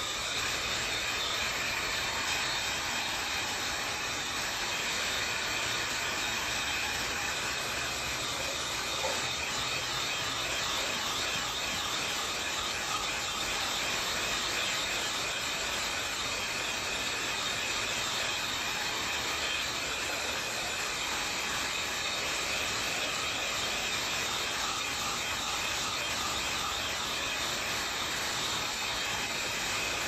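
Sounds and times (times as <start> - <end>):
electric dryer blowing air: 0.0 - 30.0.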